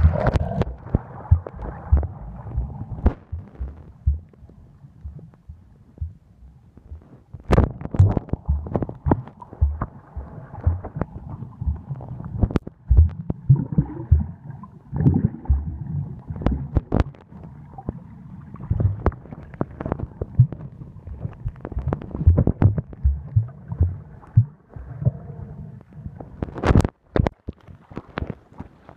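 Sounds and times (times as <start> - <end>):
muffled underwater thumps and knocks: 0.0 - 6.2, 6.8 - 14.4, 15.0 - 18.0, 18.6 - 25.2, 26.2 - 28.8
underwater bubbling: 0.0 - 28.6.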